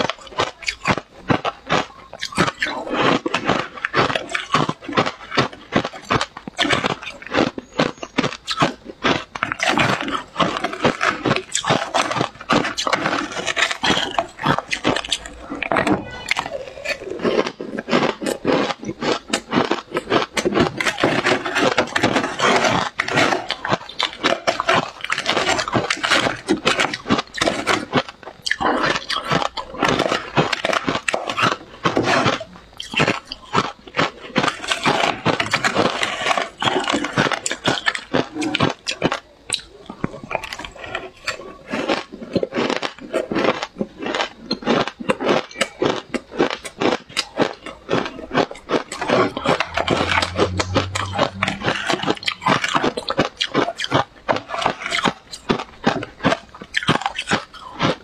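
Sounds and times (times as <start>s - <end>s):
spoon scraping crunching ice: 0.0s - 58.0s.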